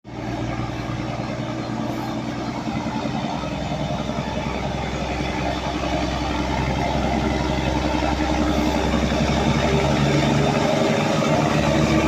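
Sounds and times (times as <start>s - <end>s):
train diesel engine idling: 0.0s - 12.0s.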